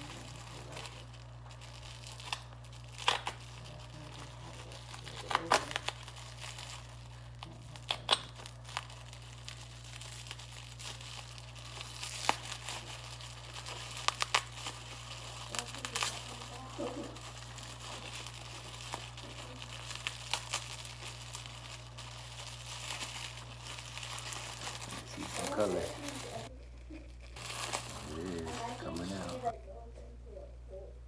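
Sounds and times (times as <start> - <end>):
plastic wrapping crinkling: 0.0 - 29.8
steady low hum: 0.0 - 31.0.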